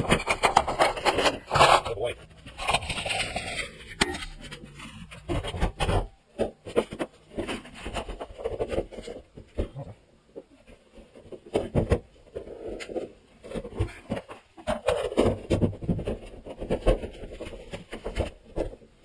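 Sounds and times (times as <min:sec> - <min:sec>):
knocks and scrapes of building work: 0:00.0 - 0:19.0.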